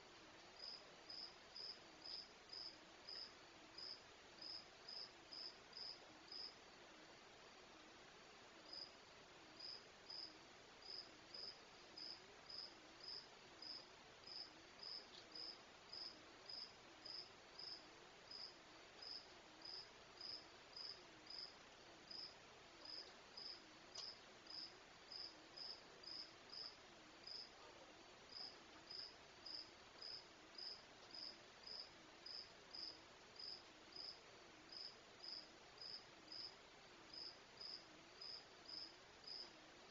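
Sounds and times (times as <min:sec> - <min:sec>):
cricket chirping: 0:00.6 - 0:06.6, 0:08.7 - 0:09.0, 0:09.6 - 0:27.5, 0:28.3 - 0:39.5.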